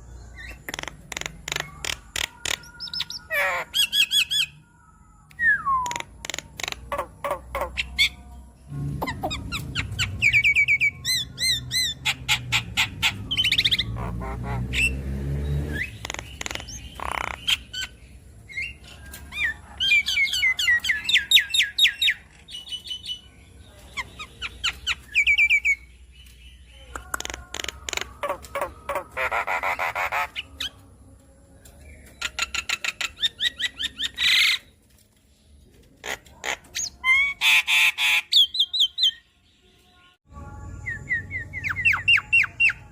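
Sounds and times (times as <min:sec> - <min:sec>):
bird chattering song: 0:00.0 - 0:15.0, 0:15.7 - 0:30.9, 0:31.6 - 0:34.7, 0:36.0 - 0:42.9.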